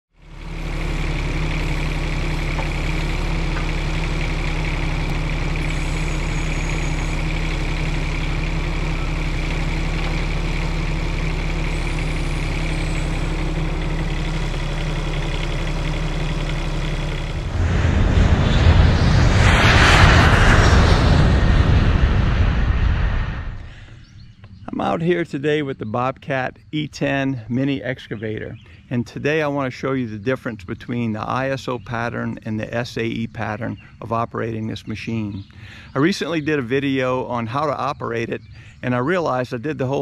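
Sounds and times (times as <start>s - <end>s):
diesel engine running: 0.1s - 30.3s, 30.9s - 40.0s.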